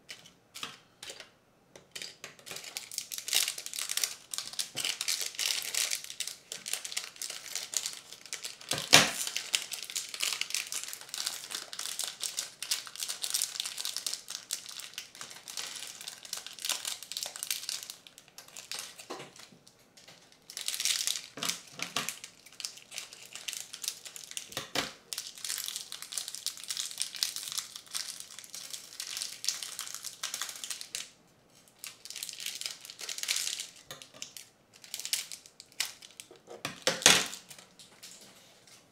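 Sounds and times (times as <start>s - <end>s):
plastic bags crinkling: 1.9s - 38.8s.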